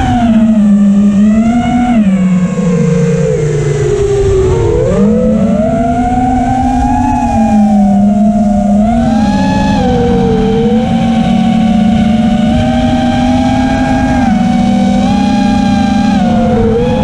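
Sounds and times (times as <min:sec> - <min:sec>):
quadcopter motors buzzing whine: 0:00.0 - 0:17.0.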